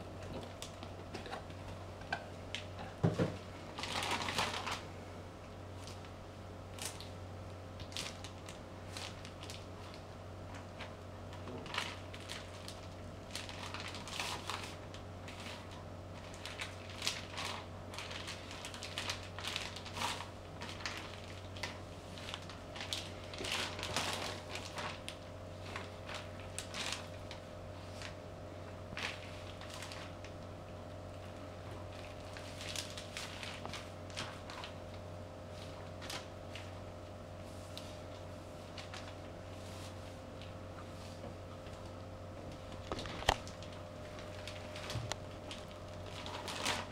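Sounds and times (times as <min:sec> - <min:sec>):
plastic crinkling: 0:00.3 - 0:04.9, 0:05.8 - 0:07.2, 0:07.8 - 0:28.2, 0:28.8 - 0:40.6, 0:41.4 - 0:46.9.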